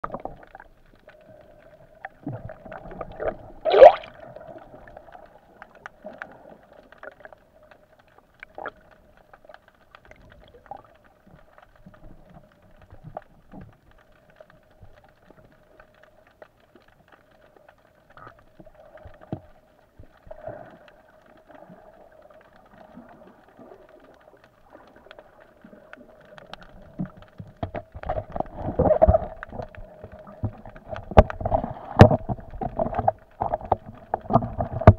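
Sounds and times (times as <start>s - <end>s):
faint underwater hum: 0.0s - 34.9s
underwater clicks and knocks: 2.0s - 34.9s.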